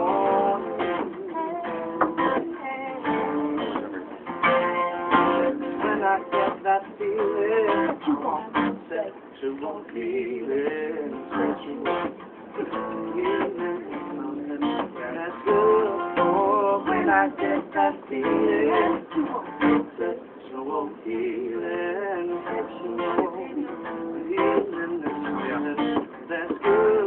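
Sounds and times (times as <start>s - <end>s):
man singing: 0.0s - 4.2s, 5.4s - 27.0s
acoustic guitar strumming: 0.0s - 27.0s.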